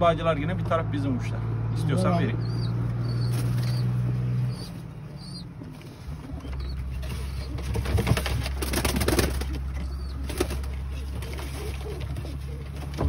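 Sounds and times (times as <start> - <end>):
pigeons cooing: 2.0 - 13.0
birds scuffling and rustling: 2.4 - 13.0.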